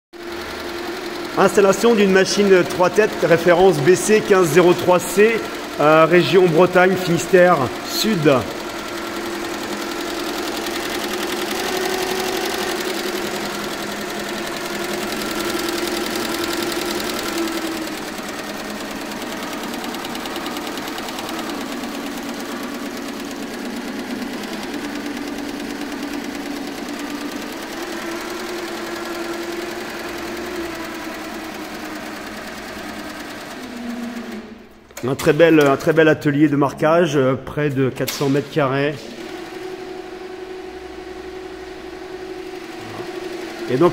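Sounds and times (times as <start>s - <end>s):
motor hum: 0.2s - 36.2s, 38.1s - 43.9s.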